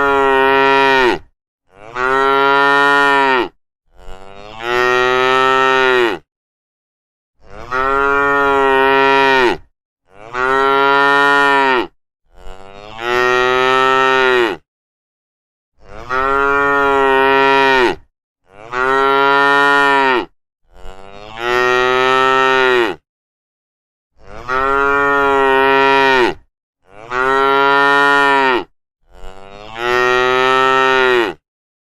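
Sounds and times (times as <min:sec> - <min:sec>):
cattle mooing: 0:00.0 - 0:06.2, 0:07.4 - 0:14.6, 0:15.8 - 0:23.0, 0:24.2 - 0:31.4.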